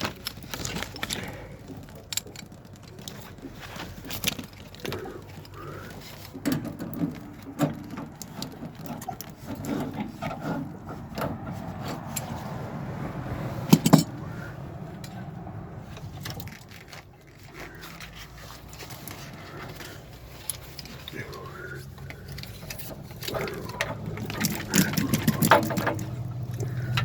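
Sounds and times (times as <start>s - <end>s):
metal plumbing parts clicking: 0.0s - 12.5s, 13.7s - 15.2s, 15.8s - 27.0s.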